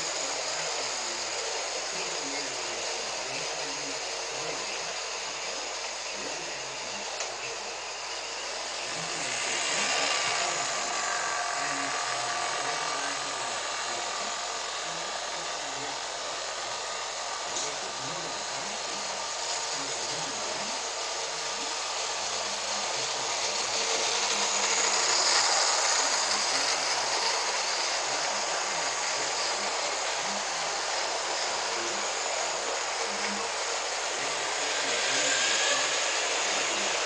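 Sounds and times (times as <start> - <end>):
electric motor whir: 0.0 - 37.0.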